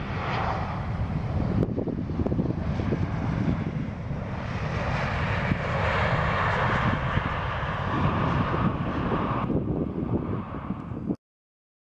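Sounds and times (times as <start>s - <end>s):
low rumble: 0.0s - 11.1s.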